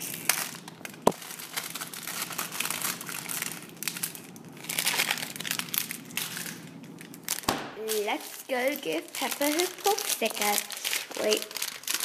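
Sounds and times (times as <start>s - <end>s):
crinkling rustle of handling: 0.0s - 12.0s.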